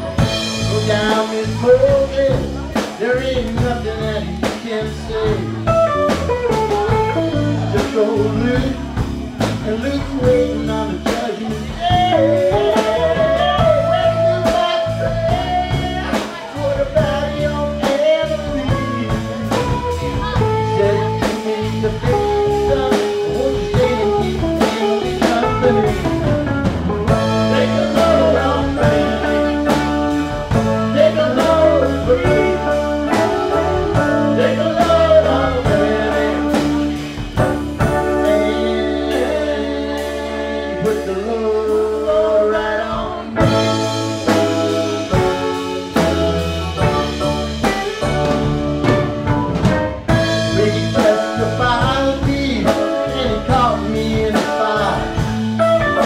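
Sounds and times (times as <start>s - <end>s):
lead guitar melody: 0.0s - 56.0s
live band playing bluesy rock: 0.0s - 56.0s.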